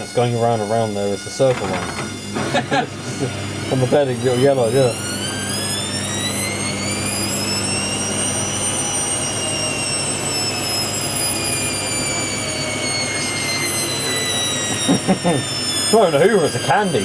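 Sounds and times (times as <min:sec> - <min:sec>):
washer dryer motor whine: 0:00.0 - 0:17.0.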